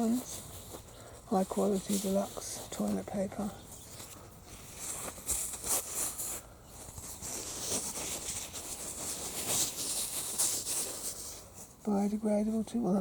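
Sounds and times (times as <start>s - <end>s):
rustling in vegetation: 0.0s - 13.0s.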